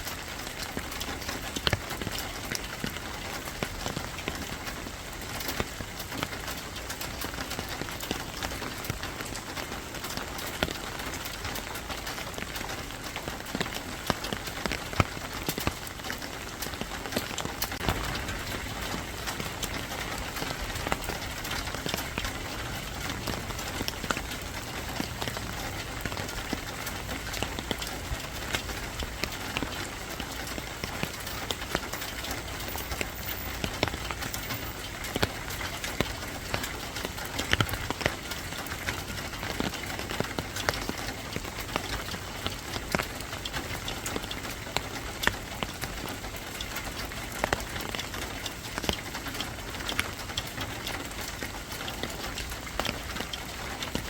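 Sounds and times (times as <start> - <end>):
rain on hard surface: 0.0 - 54.0.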